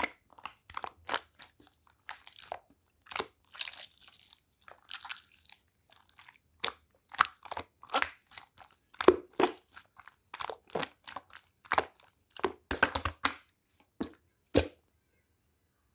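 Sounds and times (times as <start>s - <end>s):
slime squished by hand: 0.0s - 14.8s.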